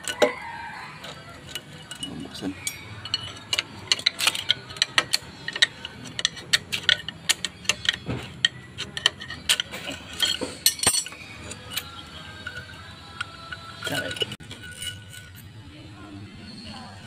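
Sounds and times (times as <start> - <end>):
metal tool clicking and tapping: 0.0 - 0.4, 1.0 - 14.9.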